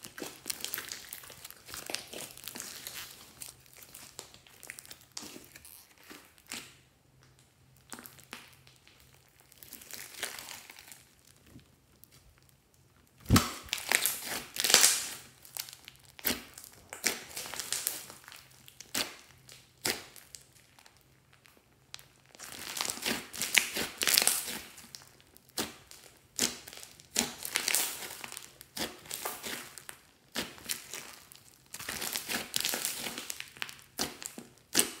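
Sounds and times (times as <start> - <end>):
slime squishing and popping: 0.0 - 35.0.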